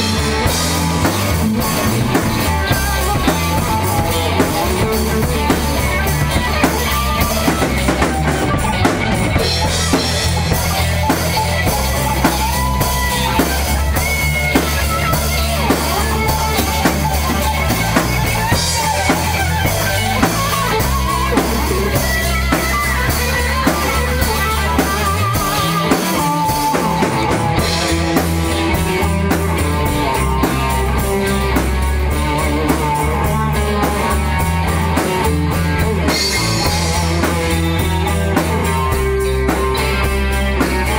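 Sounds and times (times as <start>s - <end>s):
drum kit beat: 0.0s - 40.9s
guitar: 0.0s - 40.9s
low bass line: 0.0s - 40.9s.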